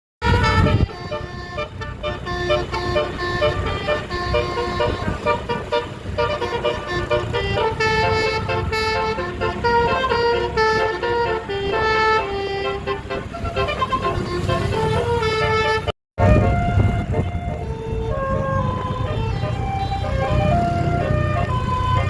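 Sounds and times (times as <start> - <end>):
low rumble of bus engines: 0.2 - 22.0
musical air horns playing a tune: 0.2 - 22.0.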